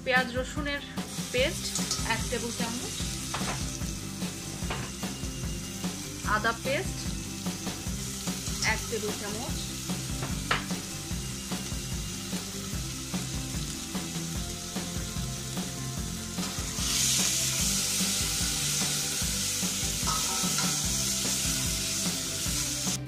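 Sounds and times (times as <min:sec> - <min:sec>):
paste sizzling in hot oil: 0:01.0 - 0:23.0.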